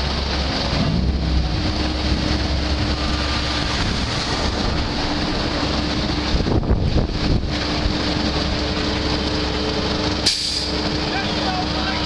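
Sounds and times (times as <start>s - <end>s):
diesel engines running: 0.0s - 12.0s
wind buffeting microphone: 0.2s - 11.0s.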